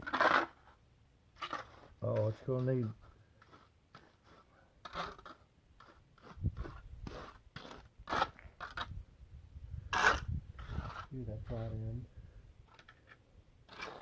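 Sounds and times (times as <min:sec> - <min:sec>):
tool scraping wet concrete: 0:00.0 - 0:00.8, 0:01.4 - 0:08.9, 0:09.8 - 0:11.9, 0:12.7 - 0:14.0.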